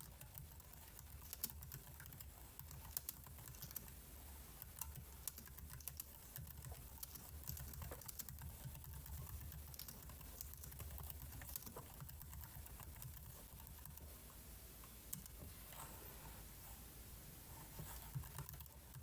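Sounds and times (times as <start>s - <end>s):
computer keyboard typing: 0.0s - 14.2s, 17.8s - 19.0s
faint low hum: 0.0s - 19.0s.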